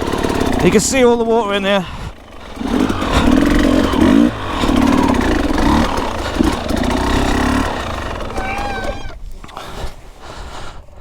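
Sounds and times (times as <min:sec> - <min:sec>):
dirt bike engine revving: 0:00.0 - 0:09.2.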